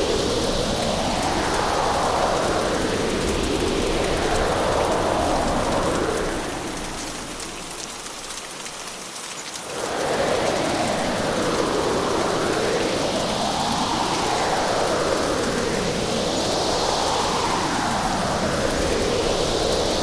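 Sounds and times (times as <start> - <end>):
gusting wind: 0.0 - 8.3, 9.6 - 20.0
heavy rain: 0.0 - 20.0.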